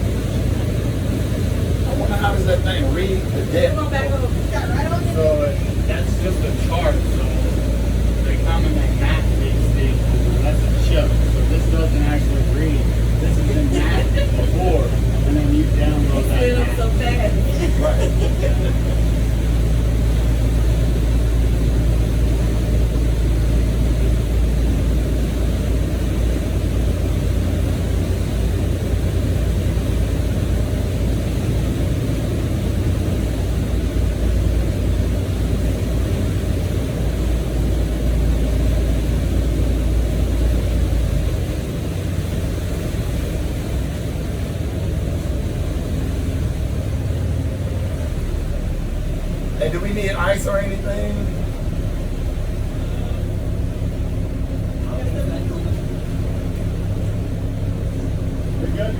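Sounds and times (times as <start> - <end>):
motorboat engine rumble: 0.0 - 58.9
water noise: 0.0 - 58.9
wind: 0.0 - 58.9.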